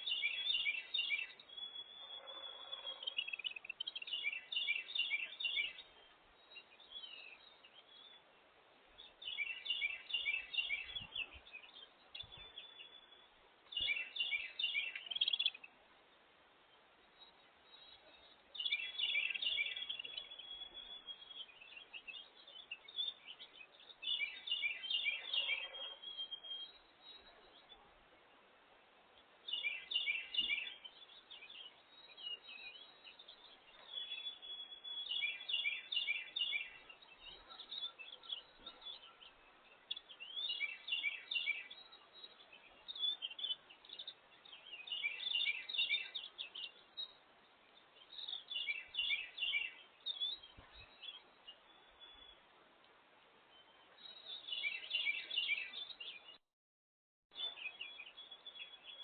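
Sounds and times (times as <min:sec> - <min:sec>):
outdoor background noise: 0:00.0 - 0:56.4, 0:57.3 - 0:59.0
songbird singing: 0:00.0 - 0:56.4, 0:57.3 - 0:59.0.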